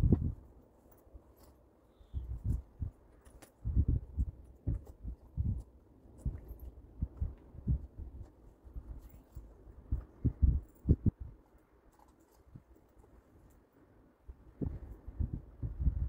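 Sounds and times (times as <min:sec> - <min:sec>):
harness rustling: 0:00.0 - 0:13.9.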